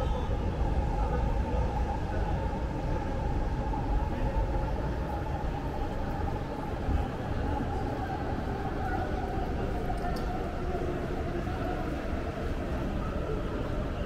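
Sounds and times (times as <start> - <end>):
low rumble of vehicles: 0.0 - 14.0
street noise: 0.0 - 14.0.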